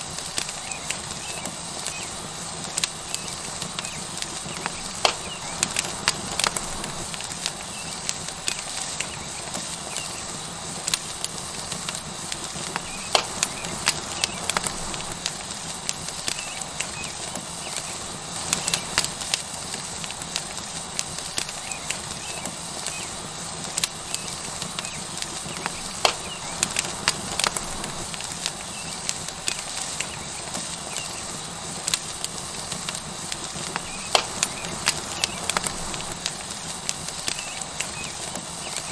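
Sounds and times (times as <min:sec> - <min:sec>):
steak sizzling on hot rock: 0:00.0 - 0:38.9
wood fire crackling: 0:00.0 - 0:38.9.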